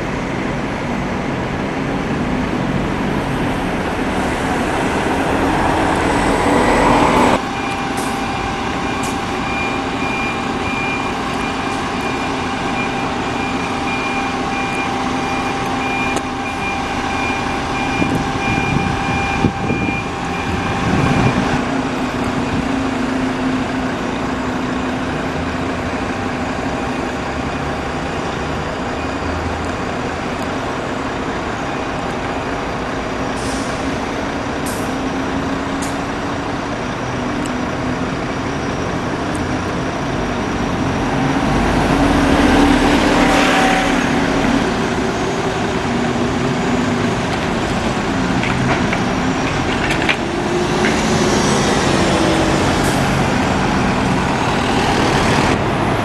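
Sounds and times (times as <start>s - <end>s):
bus engine approaching: 0.0s - 56.0s
bus engines humming: 0.0s - 56.0s.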